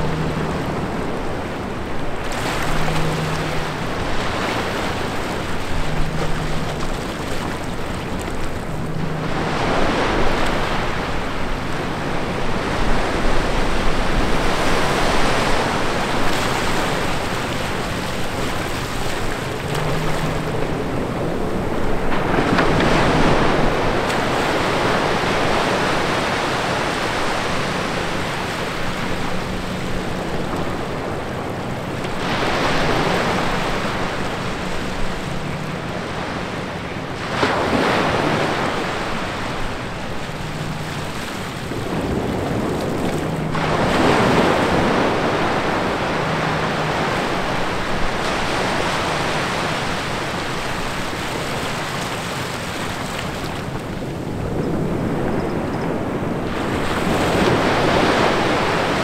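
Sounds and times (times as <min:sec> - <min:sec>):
ocean waves breaking on beach: 0:00.0 - 0:59.0.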